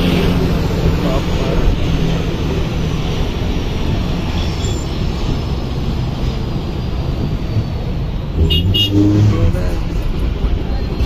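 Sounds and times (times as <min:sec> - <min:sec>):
bus engine rumble and road noise: 0:00.0 - 0:11.0.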